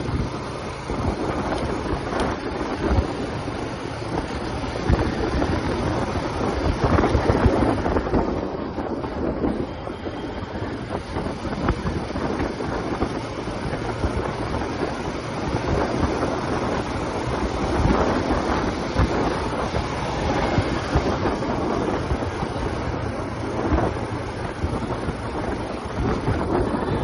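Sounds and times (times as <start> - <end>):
motorcycle engine and exhaust: 0.0 - 27.0
wind rushing over microphone: 0.0 - 27.0.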